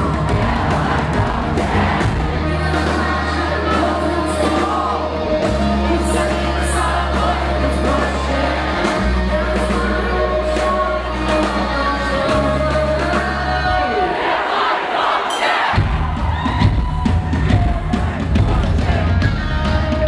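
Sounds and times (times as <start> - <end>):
live rock band playing: 0.0 - 14.0, 15.8 - 20.0
crowd singing along: 0.0 - 16.5, 17.1 - 20.0
lead vocal singing: 0.0 - 20.0.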